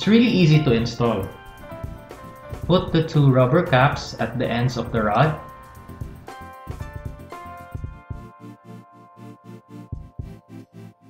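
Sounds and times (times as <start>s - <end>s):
background music with pulsing beat: 0.0s - 11.0s.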